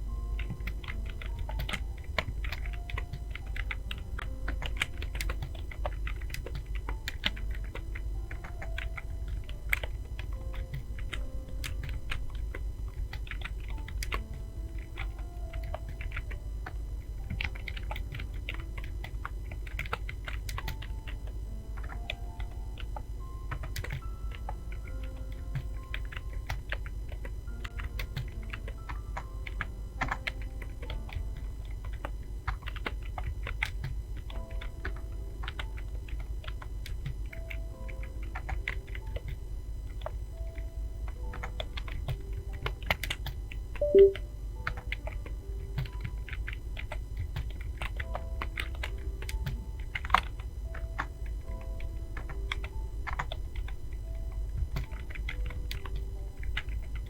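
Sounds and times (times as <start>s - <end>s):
faint background music: 0.0s - 57.0s
fast typing on keyboard: 0.1s - 57.0s.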